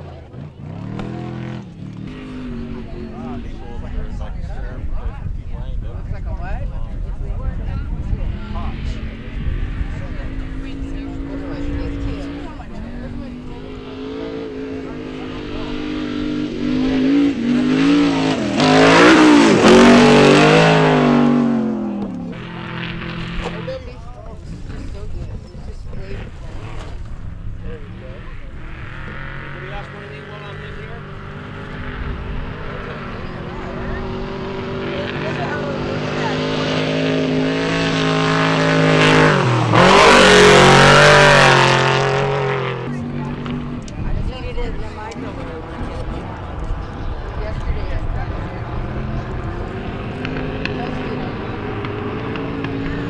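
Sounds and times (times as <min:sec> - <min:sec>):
racing engine revving hard: 0:00.0 - 0:04.0, 0:08.2 - 0:23.8, 0:27.6 - 0:53.0.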